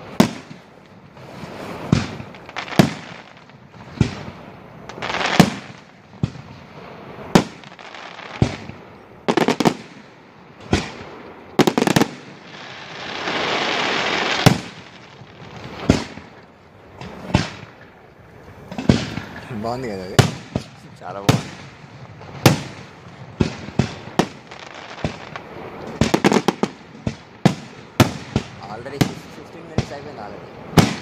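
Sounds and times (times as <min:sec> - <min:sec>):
firework hiss: 0:00.0 - 0:31.0
firework shells bursting: 0:00.0 - 0:31.0.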